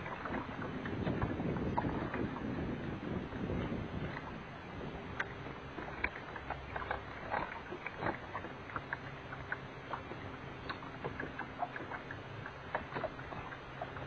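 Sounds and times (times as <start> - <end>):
low steady motor hum: 0.0 - 14.0
waves lapping against boat hull: 0.0 - 14.0.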